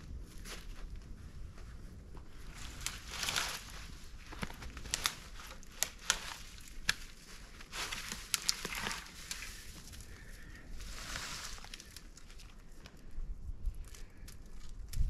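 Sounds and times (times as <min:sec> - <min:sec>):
rustling brush: 0:00.0 - 0:13.1
crunching snow: 0:00.1 - 0:12.7
twigs snapping: 0:02.2 - 0:13.0, 0:13.8 - 0:15.0.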